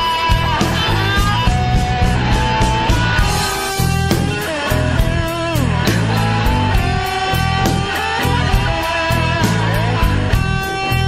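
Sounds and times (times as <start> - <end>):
bass and drums: 0.0 - 11.0
electric guitar lead: 0.0 - 11.0.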